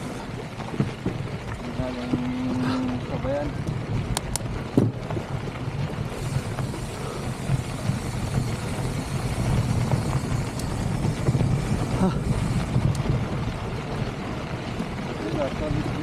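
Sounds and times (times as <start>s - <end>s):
bike rattling over stones: 0.0s - 16.0s
bike tyres rolling over rocky trail: 0.0s - 16.0s
wind buffeting microphone: 0.0s - 16.0s.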